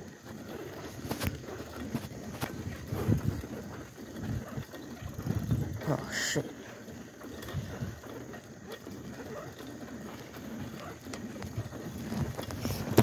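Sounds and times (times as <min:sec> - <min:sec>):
bicycle tyres rumbling on asphalt: 0:00.0 - 0:13.0
faint clicks and rattles: 0:00.0 - 0:13.0
wind: 0:00.0 - 0:13.0.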